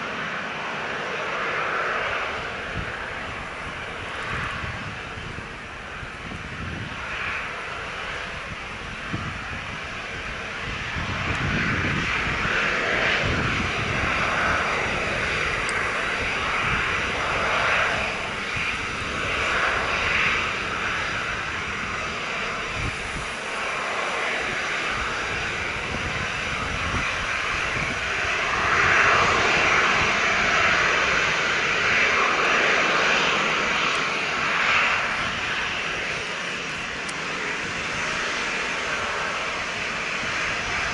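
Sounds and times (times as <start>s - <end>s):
jet engines taxiing: 0.0s - 40.9s.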